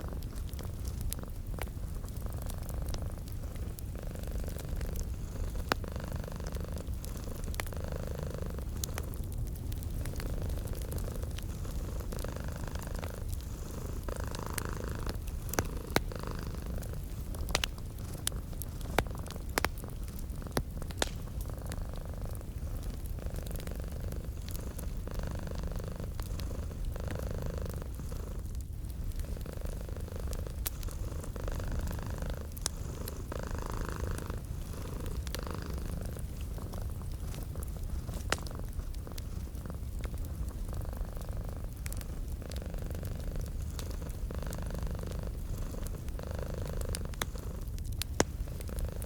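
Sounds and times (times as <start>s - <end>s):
cat purring: 0.0s - 49.0s
wood fire crackling: 0.0s - 49.0s.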